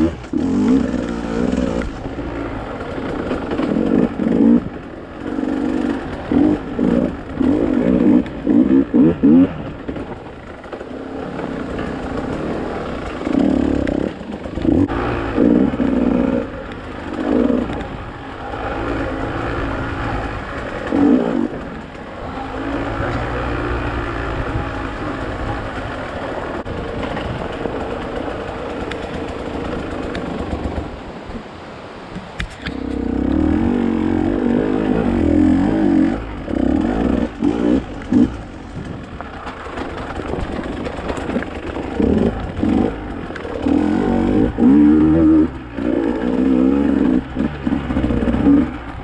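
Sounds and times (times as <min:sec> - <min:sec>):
dirt bike engine revving: 0:00.0 - 0:31.0, 0:32.6 - 0:49.0.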